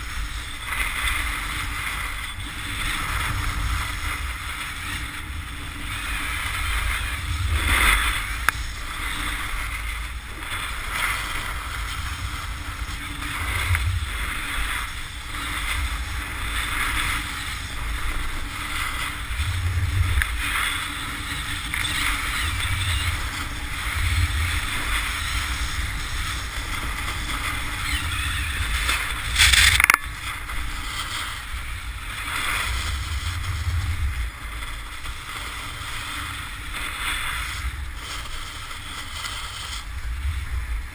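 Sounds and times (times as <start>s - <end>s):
snowboard scraping over snow: 0.0s - 40.9s
wind buffeting microphone: 0.0s - 40.9s.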